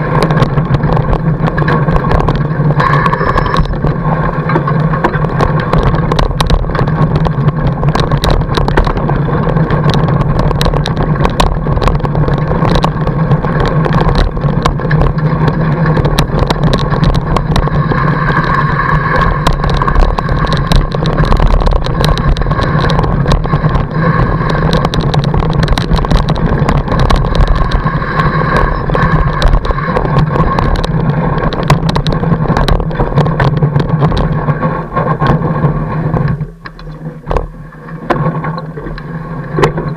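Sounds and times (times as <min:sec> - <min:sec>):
bike and mount rattling: 0:00.0 - 0:39.9
bike tyre rolling over snow: 0:00.0 - 0:39.9.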